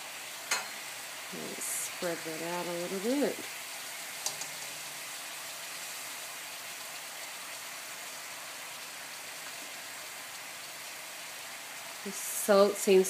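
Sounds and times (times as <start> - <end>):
water boiling and sizzling: 0.0 - 13.0.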